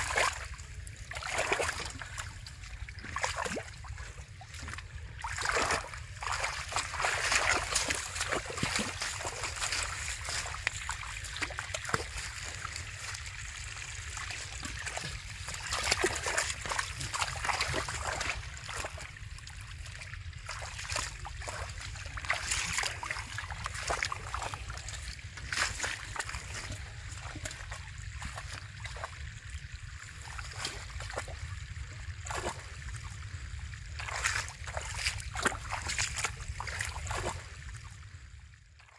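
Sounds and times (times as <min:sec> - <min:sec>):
hands splashing in muddy water: 0:00.0 - 0:33.2, 0:33.8 - 0:37.7
water dripping: 0:00.0 - 0:37.9
low rumble: 0:00.0 - 0:38.7.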